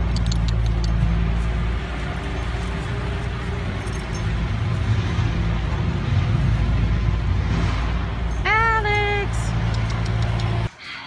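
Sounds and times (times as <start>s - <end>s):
rushing noise: 0.0s - 10.7s.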